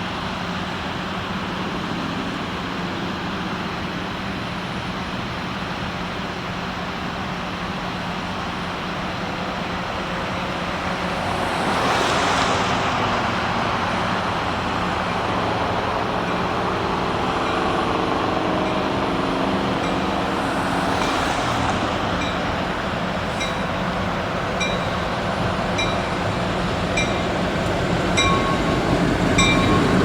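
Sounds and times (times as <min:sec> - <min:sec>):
locomotive diesel engine drone: 0:00.0 - 0:30.0
road vehicles passing: 0:00.0 - 0:30.0.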